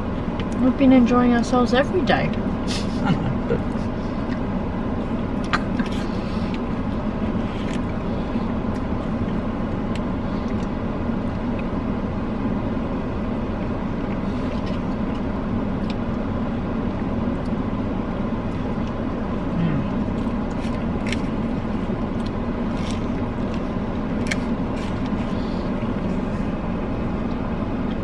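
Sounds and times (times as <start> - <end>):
low hum and rumble: 0.0 - 28.0.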